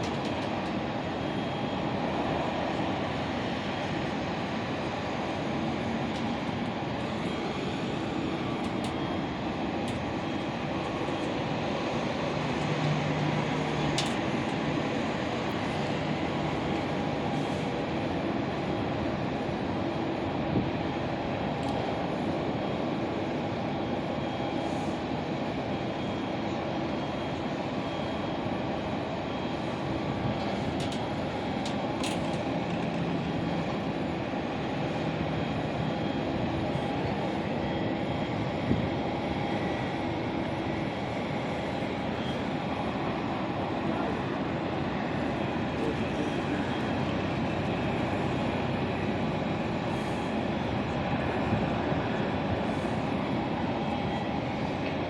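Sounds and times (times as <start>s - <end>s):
aeroplane engine and airflow noise: 0.0s - 55.0s.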